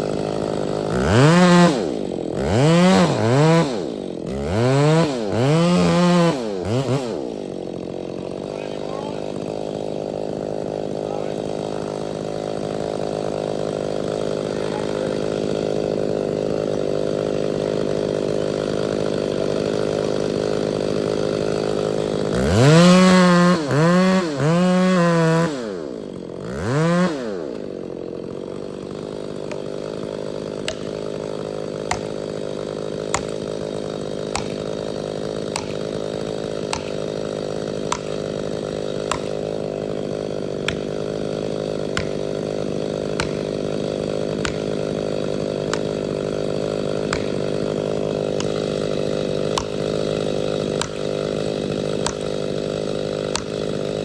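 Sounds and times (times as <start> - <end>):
chainsaw engine idling and revving: 0.0 - 54.0.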